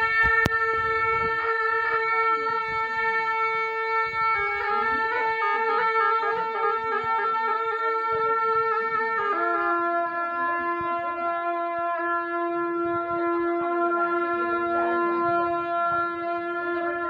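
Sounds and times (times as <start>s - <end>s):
reedy shawm melody: 0.0s - 17.0s.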